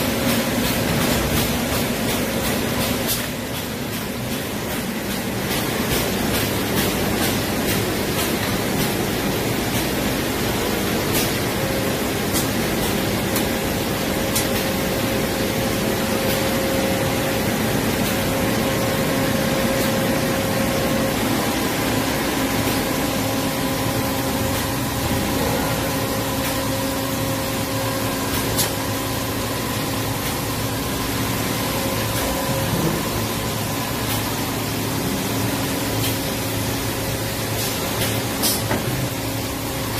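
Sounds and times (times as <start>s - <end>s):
industrial machine hiss and hum: 0.0s - 39.9s.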